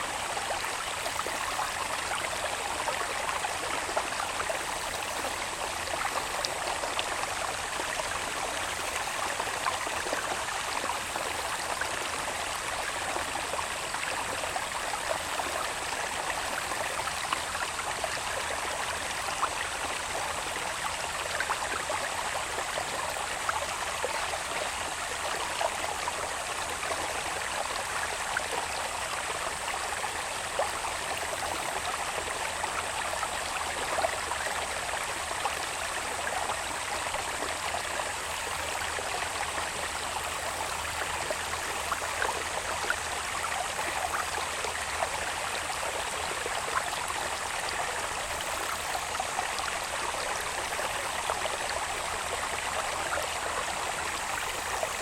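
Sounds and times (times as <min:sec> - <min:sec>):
small waterway babbling: 0:00.0 - 0:55.0.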